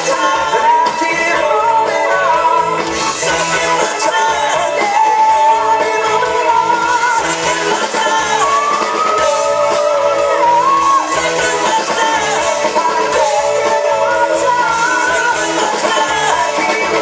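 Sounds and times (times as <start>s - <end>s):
bass guitar: 0.0s - 17.0s
electric guitars: 0.0s - 17.0s
steady drum beat: 0.0s - 17.0s.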